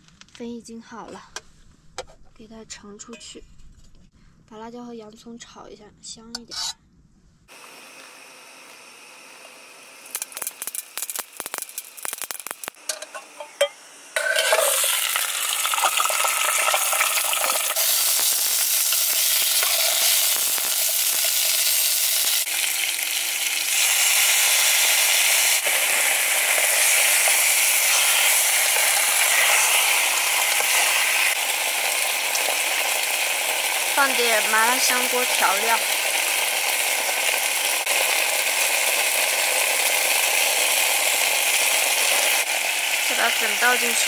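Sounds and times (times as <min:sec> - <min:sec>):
food sizzling in hot oil: 0:07.8 - 0:44.0.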